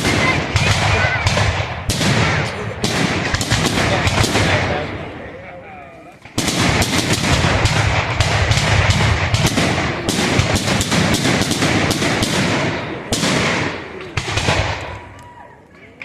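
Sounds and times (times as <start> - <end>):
fireworks bangs and cracks: 0.0 - 5.3, 6.2 - 15.3.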